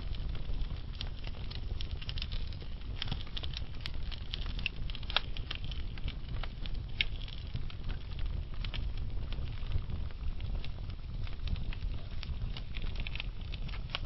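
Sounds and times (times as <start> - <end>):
burning logs crackling: 0.0 - 14.0.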